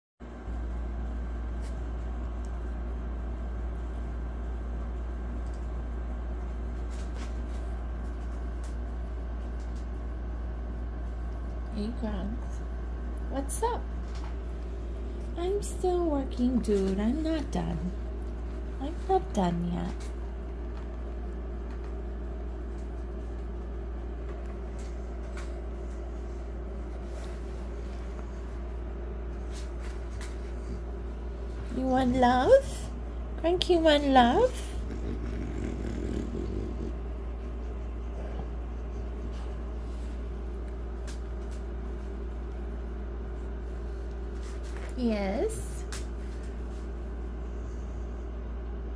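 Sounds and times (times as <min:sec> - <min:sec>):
steady low hum: 0:00.2 - 0:48.9.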